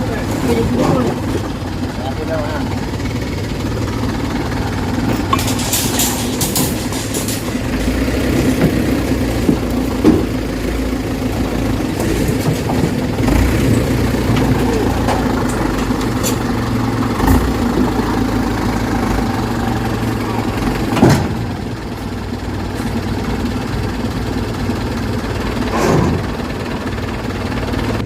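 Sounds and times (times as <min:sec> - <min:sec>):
dump truck engine idling: 0:00.0 - 0:28.0
truck knocks and rattles: 0:00.0 - 0:28.0.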